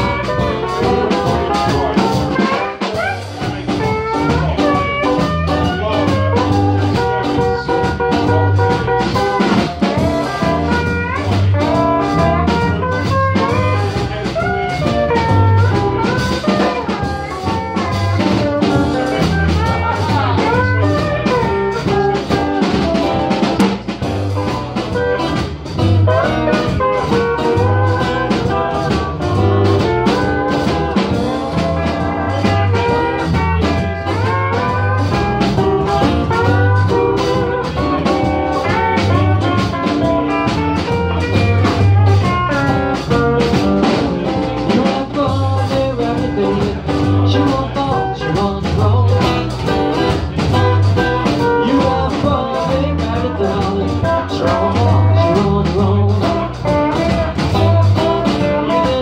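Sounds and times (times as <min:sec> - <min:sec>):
acoustic bass playing low notes: 0:00.0 - 0:59.0
strummed acoustic guitar: 0:00.0 - 0:59.0.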